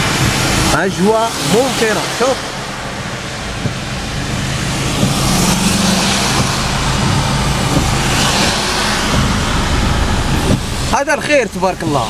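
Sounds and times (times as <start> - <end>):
car engine hum: 0.0 - 12.0
tyres hissing on wet road: 0.0 - 12.0.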